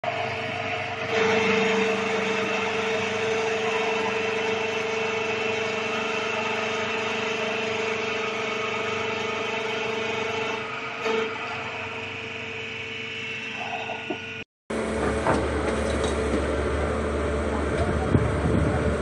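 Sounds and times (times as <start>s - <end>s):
drilling rig motor humming: 0.0s - 19.0s.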